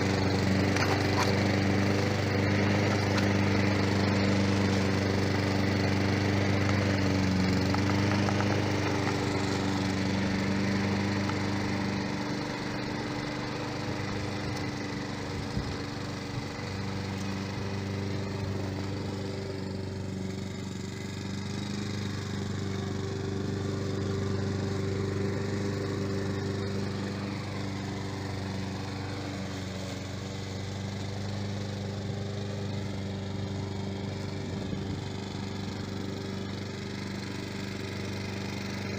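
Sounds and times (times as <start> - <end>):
lawn mower motor running: 0.0 - 38.9.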